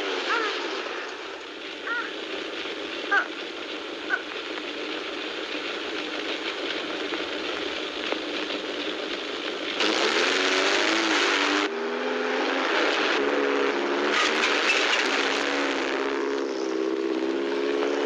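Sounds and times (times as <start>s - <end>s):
car engine running: 0.0s - 18.0s
film soundtrack hiss: 0.0s - 18.0s.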